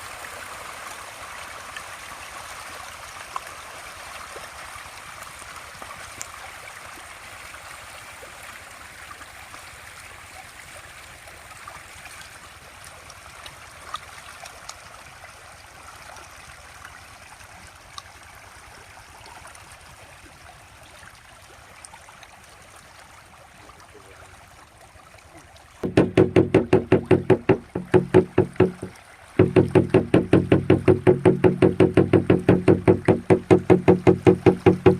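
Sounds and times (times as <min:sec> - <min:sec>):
trickling water: 0:00.0 - 0:34.9.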